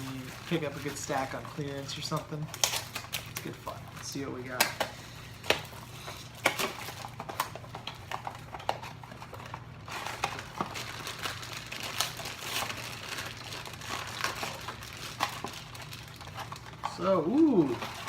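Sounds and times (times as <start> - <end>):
foil bags crinkling: 0.0 - 18.0
packaging rustling and clicking: 0.0 - 18.0.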